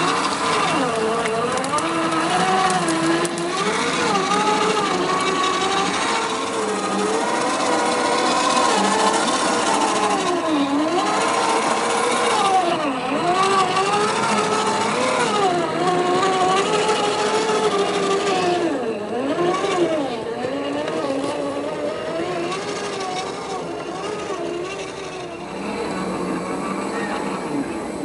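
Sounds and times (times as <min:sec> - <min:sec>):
electric motor and gearbox whining: 0:00.0 - 0:28.0.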